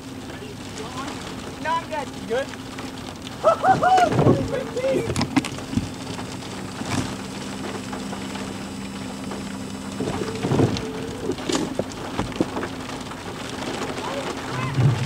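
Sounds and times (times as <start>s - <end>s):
idling engine hum: 0.0s - 15.0s
rain ticking on a vehicle: 0.0s - 15.0s.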